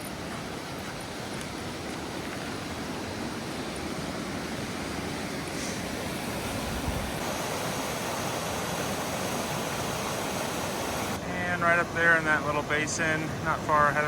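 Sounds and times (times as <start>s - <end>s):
creek rapids rushing: 0.0s - 14.0s.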